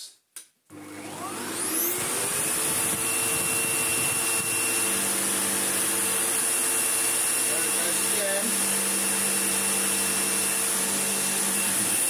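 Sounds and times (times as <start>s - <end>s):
upright vacuum cleaner running: 0.7s - 12.0s.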